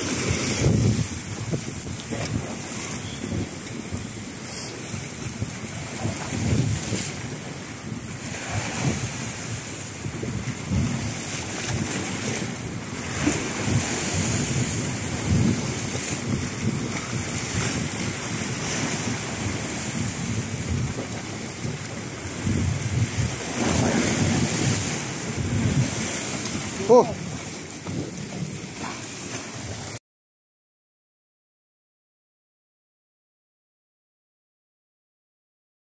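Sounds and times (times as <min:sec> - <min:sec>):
sea waves surging against rocks: 0:00.0 - 0:30.0
wind blowing over microphone: 0:00.0 - 0:30.0.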